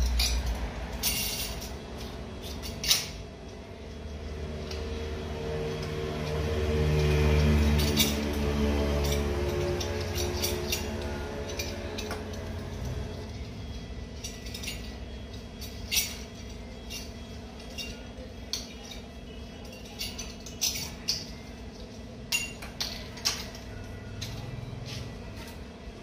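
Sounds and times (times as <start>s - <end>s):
metal clinks and clicks: 0.0s - 25.7s.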